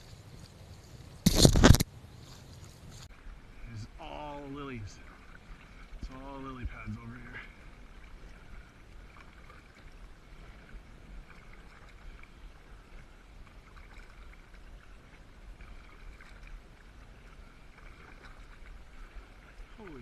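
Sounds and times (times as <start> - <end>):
paddle splashes: 0.0 - 20.0
steady low rumble: 2.8 - 20.0.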